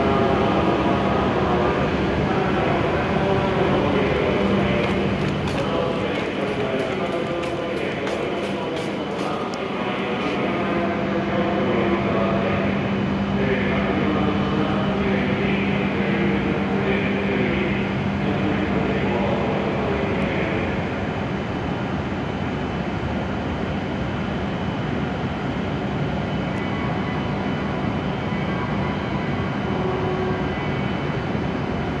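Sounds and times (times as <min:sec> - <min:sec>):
train equipment whirring hum: 0:00.0 - 0:32.0.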